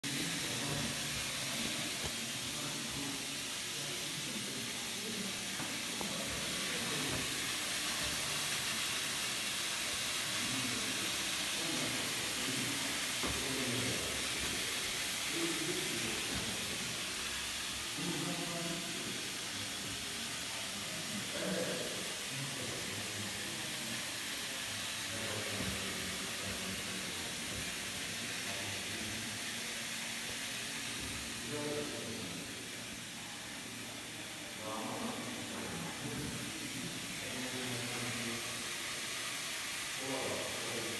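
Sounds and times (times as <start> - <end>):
steam hissing from machine: 0.0 - 40.9.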